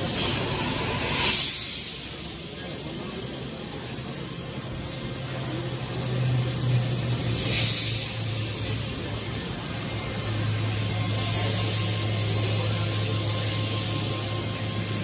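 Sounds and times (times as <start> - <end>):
hiss: 0.0 - 15.0
low machine hum: 0.0 - 15.0.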